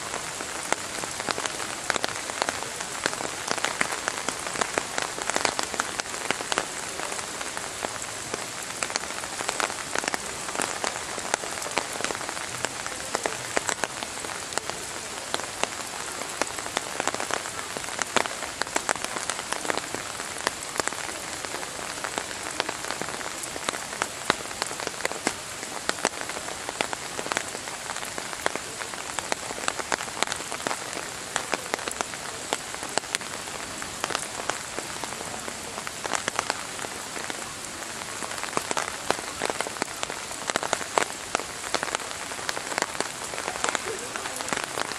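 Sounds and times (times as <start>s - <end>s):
rain falling on rocks: 0.0s - 44.9s
raindrops ticking: 0.0s - 44.9s.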